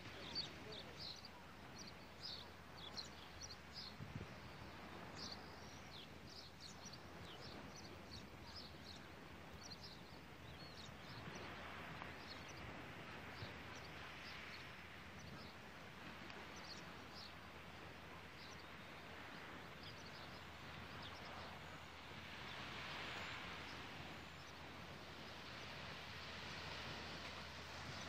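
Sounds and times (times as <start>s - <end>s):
faint outdoor hiss: 0.0s - 28.0s.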